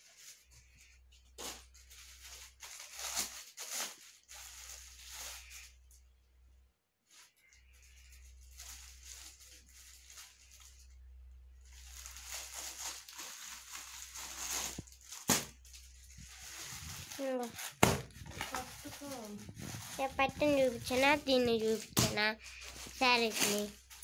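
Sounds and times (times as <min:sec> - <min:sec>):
plastic packaging rustling: 0:00.0 - 0:06.0, 0:07.1 - 0:11.0, 0:11.6 - 0:24.0.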